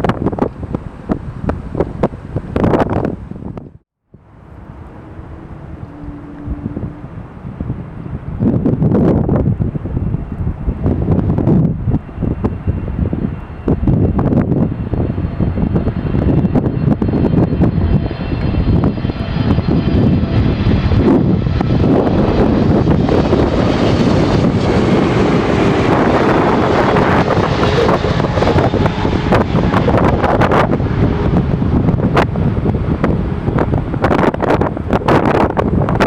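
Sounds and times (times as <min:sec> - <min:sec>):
jet engines rumbling and whining: 0:00.0 - 0:36.0
wind buffeting microphone: 0:00.0 - 0:36.0.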